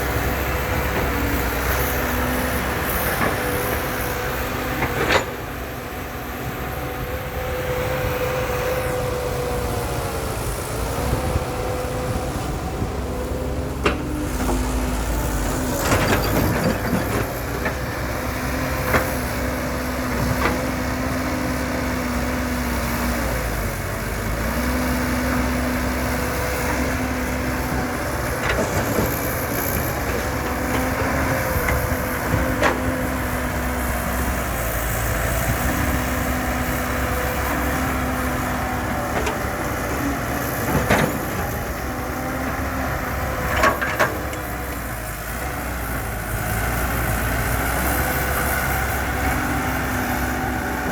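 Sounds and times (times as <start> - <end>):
heavy machinery engine running: 0.0 - 50.9.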